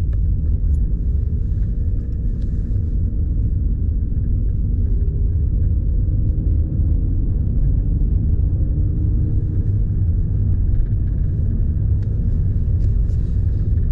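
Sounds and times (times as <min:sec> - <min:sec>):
car engine running steadily: 0:00.0 - 0:13.9.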